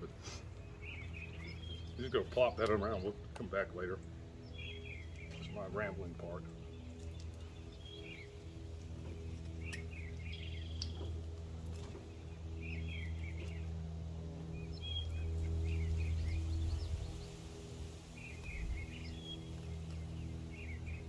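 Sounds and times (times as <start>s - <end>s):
songbirds chirping: 0.0s - 21.0s
steady low hum: 0.0s - 21.0s.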